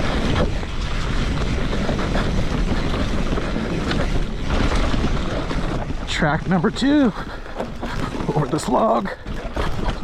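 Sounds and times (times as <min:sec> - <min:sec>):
bike knocks and rattles: 0:00.0 - 0:10.0
bike tyres rolling on dirt: 0:00.0 - 0:10.0
wind rushing over microphone: 0:00.0 - 0:10.0.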